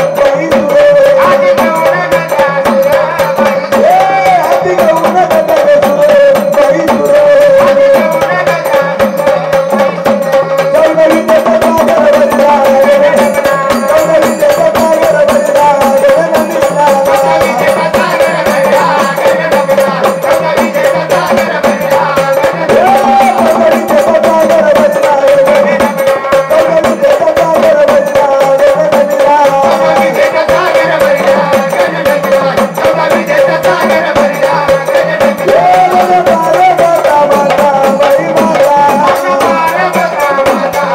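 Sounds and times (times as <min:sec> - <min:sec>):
fast hand percussion: 0:00.0 - 0:40.9.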